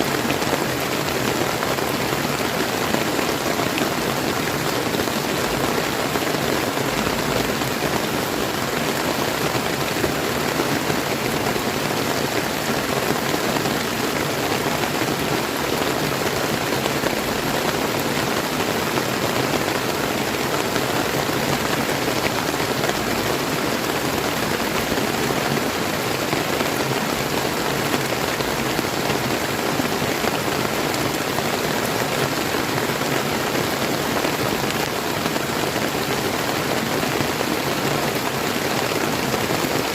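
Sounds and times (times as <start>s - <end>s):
rain falling: 0.0s - 39.9s
river flowing: 0.0s - 39.9s.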